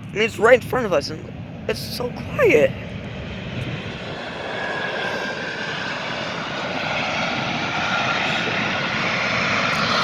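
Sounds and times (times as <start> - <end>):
jet engines taxiing: 0.0 - 10.0.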